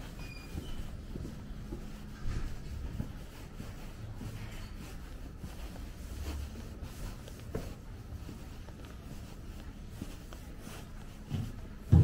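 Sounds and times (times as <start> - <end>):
footsteps on stone paving: 0.0 - 12.0
low city rumble: 0.0 - 12.0.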